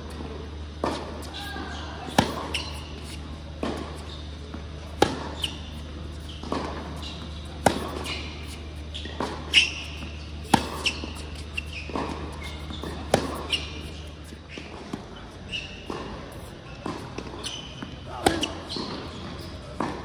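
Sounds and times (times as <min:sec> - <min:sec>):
tennis ball bouncing: 0:00.1 - 0:20.0
tennis racket striking ball: 0:00.8 - 0:04.0, 0:04.8 - 0:15.0, 0:16.8 - 0:20.0
shoe squeaks on court: 0:00.8 - 0:16.6, 0:17.2 - 0:19.8.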